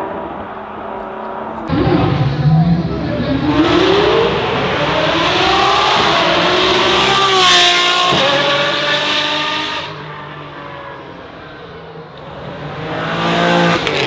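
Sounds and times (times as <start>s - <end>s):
car engine accelerating hard: 1.4s - 11.0s, 12.1s - 14.0s.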